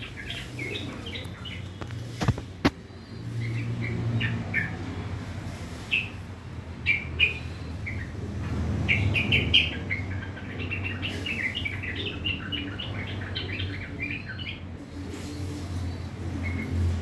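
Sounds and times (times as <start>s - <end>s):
bird harsh chattering song: 0.0s - 4.8s, 5.8s - 6.2s, 6.8s - 8.2s, 8.9s - 17.0s.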